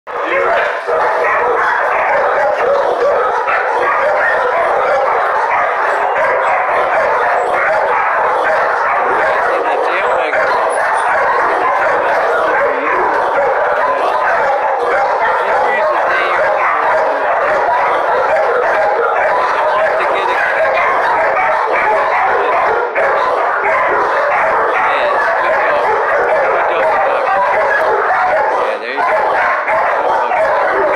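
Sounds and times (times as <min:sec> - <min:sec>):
many dogs barking: 0:00.0 - 0:30.9.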